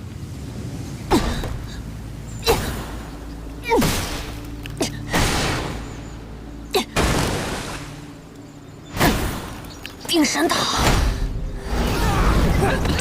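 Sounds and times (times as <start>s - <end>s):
low steady drone: 0.0s - 13.0s.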